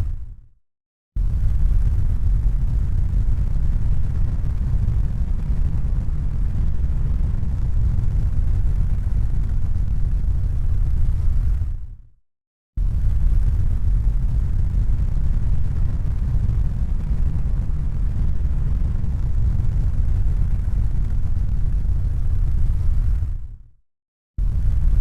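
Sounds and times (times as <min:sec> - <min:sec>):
deep rumble: 0:00.0 - 0:00.5, 0:01.2 - 0:12.0, 0:12.8 - 0:23.7, 0:24.4 - 0:25.0.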